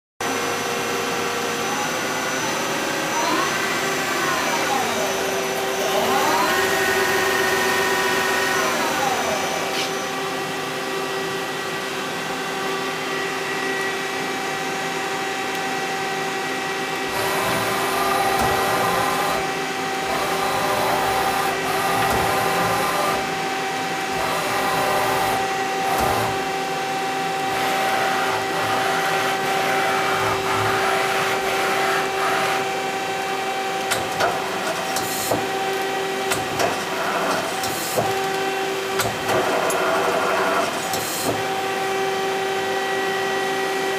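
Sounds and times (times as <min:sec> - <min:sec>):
lathe machine hum: 0:00.2 - 0:43.9
tool turret whirring: 0:00.4 - 0:43.9.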